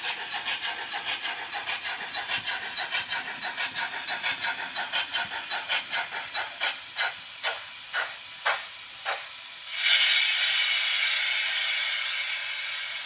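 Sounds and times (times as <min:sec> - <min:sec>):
steam hissing: 0:00.0 - 0:13.0
steam locomotive exhaust chuffs: 0:00.0 - 0:13.0.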